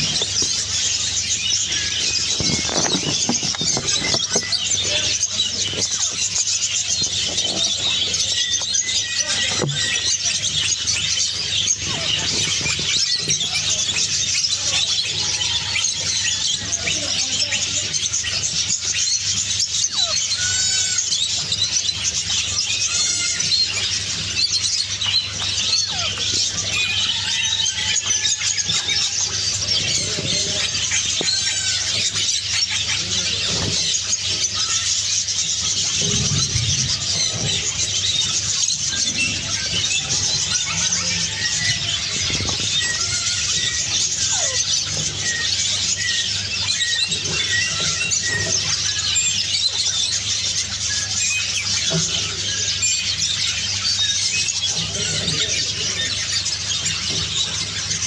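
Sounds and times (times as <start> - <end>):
caged birds chattering: 0.0 - 58.0
loud rising and falling bird calls: 0.0 - 58.0.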